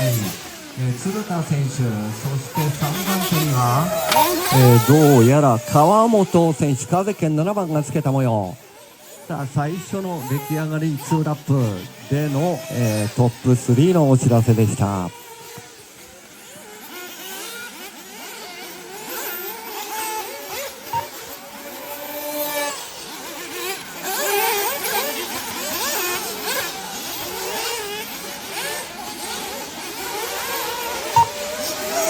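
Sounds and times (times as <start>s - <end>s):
model buggy engines revving: 0.0s - 32.0s.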